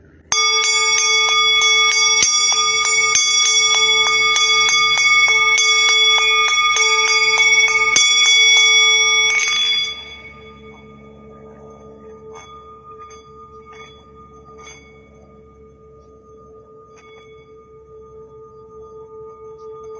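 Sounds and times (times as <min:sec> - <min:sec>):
metal bell ringing: 0:00.3 - 0:19.9.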